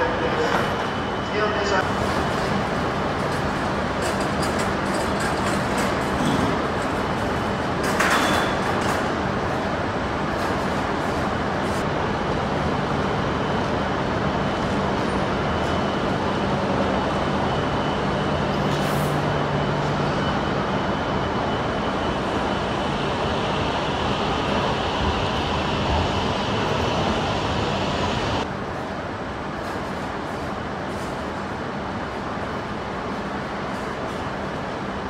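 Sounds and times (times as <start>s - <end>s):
train running noise: 0.0s - 35.0s.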